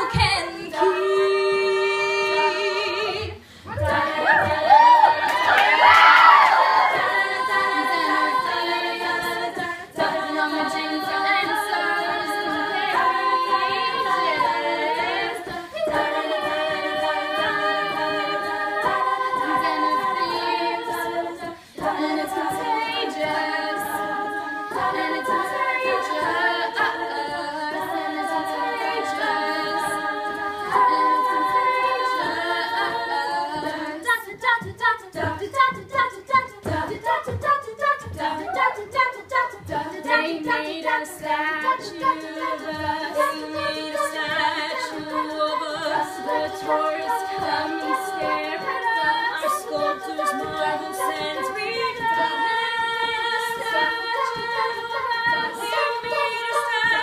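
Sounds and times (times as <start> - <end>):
women singing in harmony: 0.0 - 57.0.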